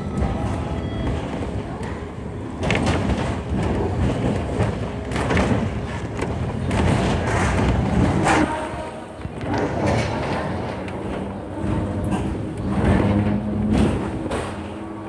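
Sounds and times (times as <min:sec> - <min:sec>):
tram rumbling on track: 0:00.0 - 0:15.0
wheel and body knocks and rattles: 0:02.6 - 0:15.0.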